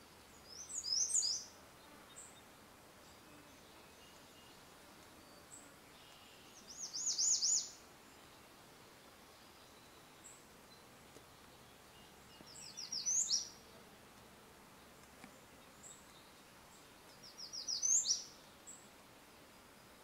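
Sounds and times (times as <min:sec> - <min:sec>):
faint open air hiss: 0:00.0 - 0:20.0
songbird singing: 0:00.0 - 0:20.0.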